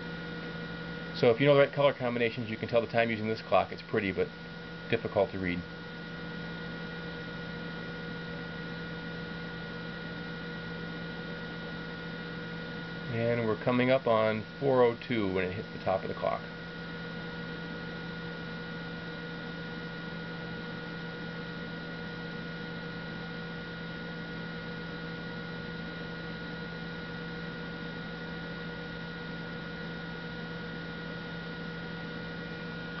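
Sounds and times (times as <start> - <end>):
hard drive motor humming: 0.0 - 33.0.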